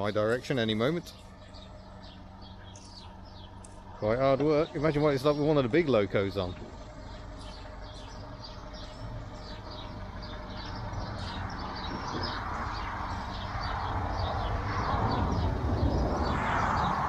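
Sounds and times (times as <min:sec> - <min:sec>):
birds chirping: 0:00.0 - 0:17.0
railway turntable rumbling: 0:01.9 - 0:17.0.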